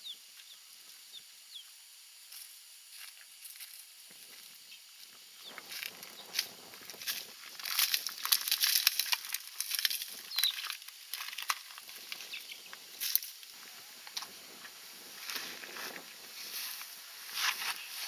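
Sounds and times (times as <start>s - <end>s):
footsteps crunching through straw: 2.3s - 18.0s.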